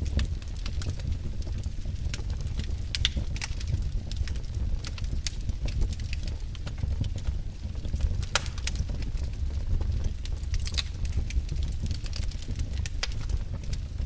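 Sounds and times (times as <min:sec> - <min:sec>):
low steady rumble: 0:00.0 - 0:14.0
wood fire crackling and popping: 0:00.0 - 0:14.0.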